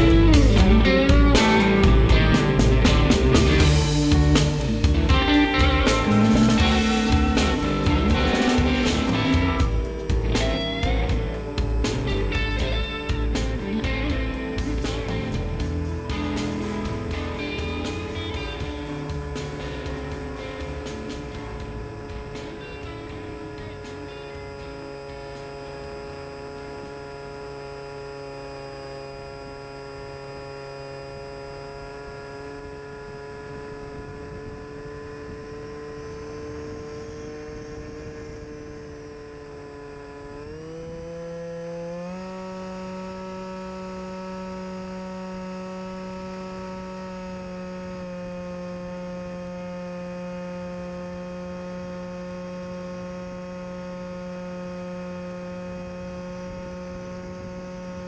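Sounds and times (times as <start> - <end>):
electric motor and propeller humming: 0.0 - 58.0.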